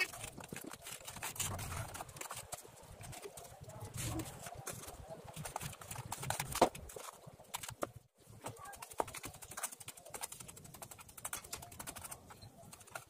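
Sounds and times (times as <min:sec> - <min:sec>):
hand tool scraping mortar: 0:00.0 - 0:07.6, 0:08.4 - 0:13.0.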